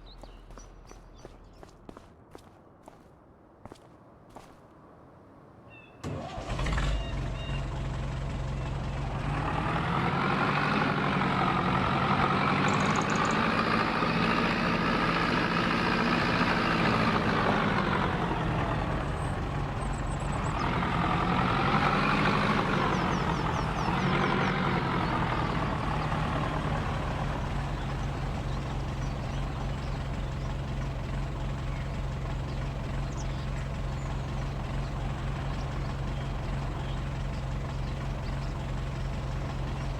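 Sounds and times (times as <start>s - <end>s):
farm vehicle engine running: 0.0s - 1.7s, 6.1s - 39.9s
engine revving whine: 6.0s - 39.9s.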